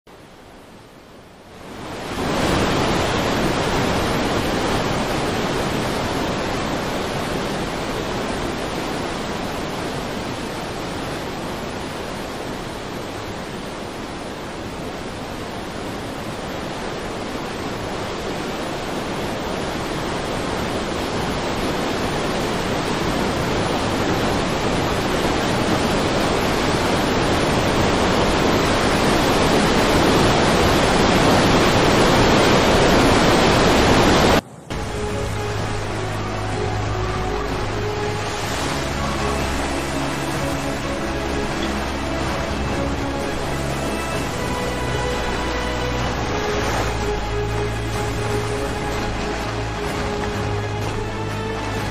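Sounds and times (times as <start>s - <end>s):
floodwater rushing: 0.2s - 51.9s.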